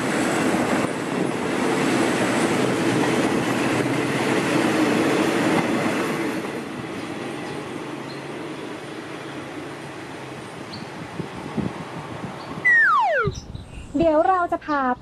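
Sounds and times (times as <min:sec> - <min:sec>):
train wheels rumbling on rail: 0:00.0 - 0:12.6.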